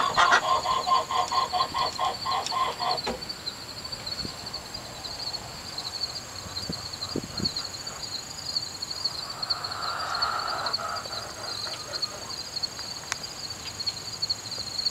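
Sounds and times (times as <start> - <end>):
insects chirring: 0.0 - 14.9.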